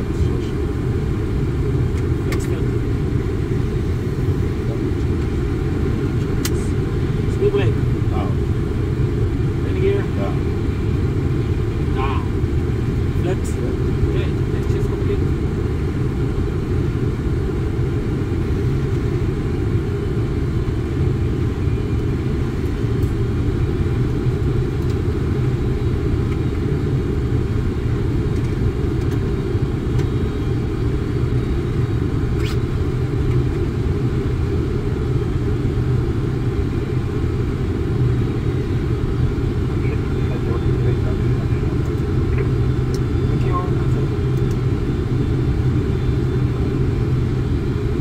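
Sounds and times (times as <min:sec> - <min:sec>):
low rumble of flight deck: 0:00.0 - 0:48.0.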